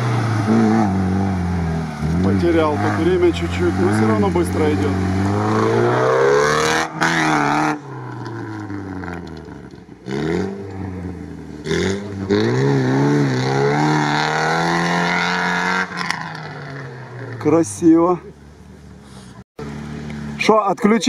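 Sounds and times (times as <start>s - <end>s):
off-road vehicle engine revving: 0.0s - 18.4s.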